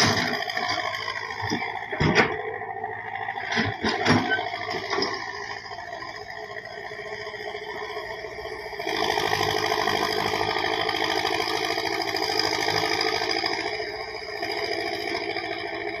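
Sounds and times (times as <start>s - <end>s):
excavator diesel engine revving: 0.0s - 16.0s.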